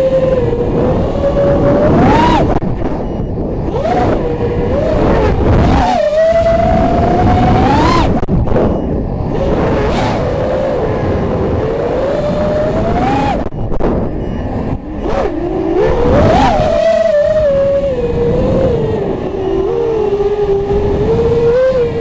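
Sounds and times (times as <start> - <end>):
drone motors whining: 0.0 - 22.0
wind rush on microphone: 0.0 - 22.0.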